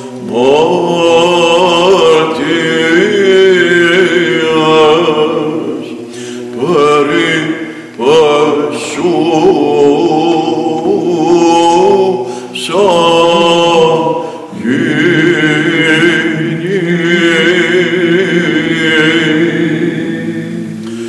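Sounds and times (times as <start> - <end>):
man chanting ornamented melody: 0.0 - 21.0
men's voices holding low drone: 0.0 - 21.0.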